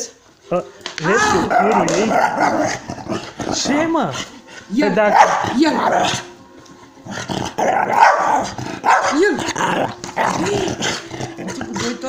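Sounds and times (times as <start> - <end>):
dog growling and barking: 1.0 - 12.0.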